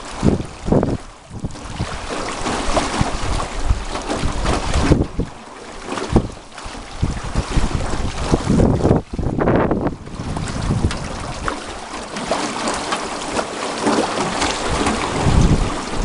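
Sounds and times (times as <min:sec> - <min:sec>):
water splashing around boat: 0:00.0 - 0:16.0
wind buffeting microphone: 0:00.0 - 0:16.0.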